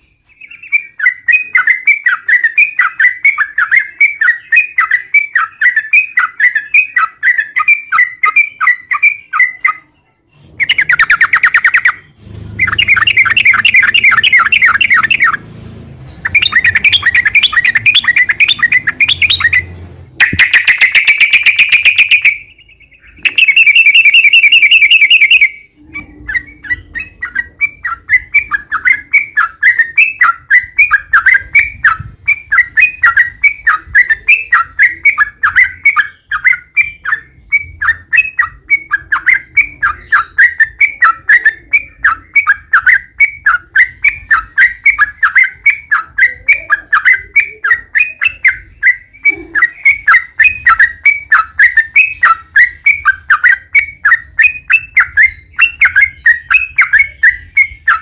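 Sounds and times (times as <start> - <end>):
bird singing trills and chirps: 0.0 - 58.0.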